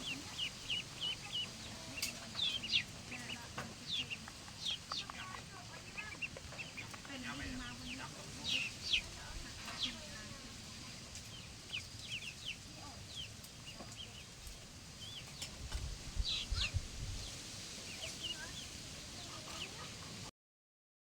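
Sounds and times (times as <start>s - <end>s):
chicks peeping: 0.0s - 20.3s.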